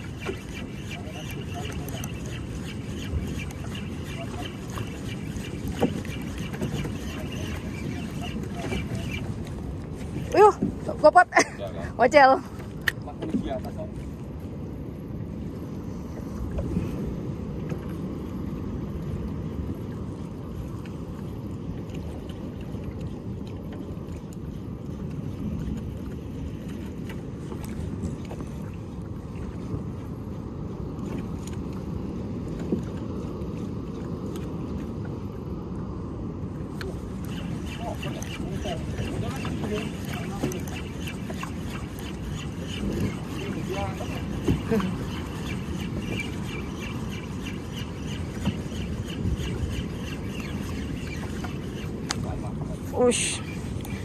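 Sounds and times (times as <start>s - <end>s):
choppy water around boat: 0.0s - 54.0s
wind: 0.0s - 54.0s.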